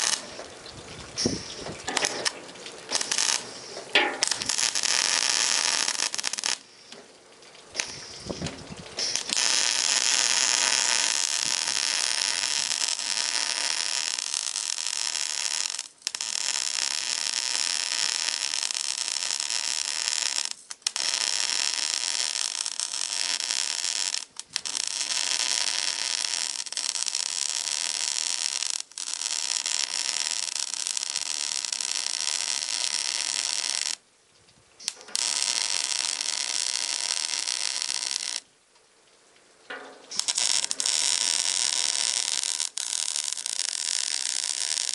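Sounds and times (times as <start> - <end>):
arc welding sizzle: 0.0 - 0.5, 1.2 - 6.6, 7.8 - 8.4, 9.0 - 34.0, 34.8 - 38.4, 40.1 - 44.9.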